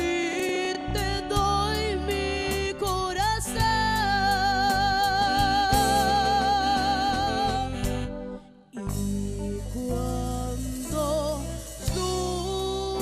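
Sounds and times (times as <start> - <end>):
drums: 0.0 - 8.2, 8.8 - 13.0
bass guitar: 0.0 - 13.0
electric guitar: 0.0 - 13.0
keyboard: 0.0 - 13.0
woman singing with vibrato: 0.0 - 13.0.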